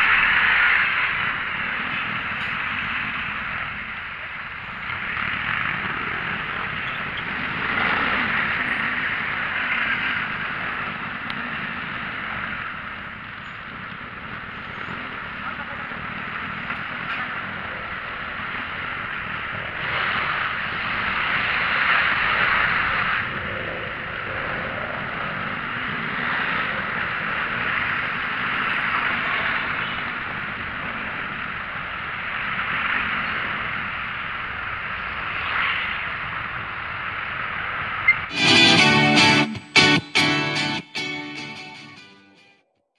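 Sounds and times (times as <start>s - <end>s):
wind and road noise: 0.0s - 40.1s.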